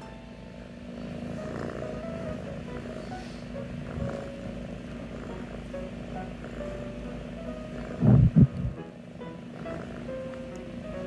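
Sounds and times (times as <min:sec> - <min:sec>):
kitten purring: 0:00.0 - 0:11.0
low steady hum: 0:00.0 - 0:11.0.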